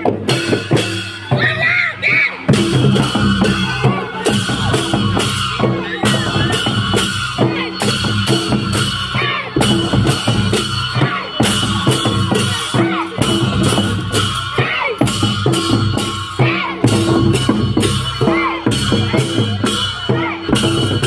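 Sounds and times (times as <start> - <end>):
hand cymbals clashing: 0.0 - 1.7, 2.3 - 21.0
barrel drums beating: 2.4 - 21.0.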